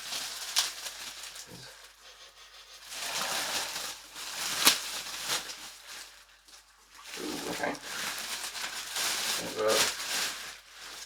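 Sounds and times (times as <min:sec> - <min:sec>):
plastic packaging crinkling: 0:00.0 - 0:01.7, 0:02.8 - 0:11.0.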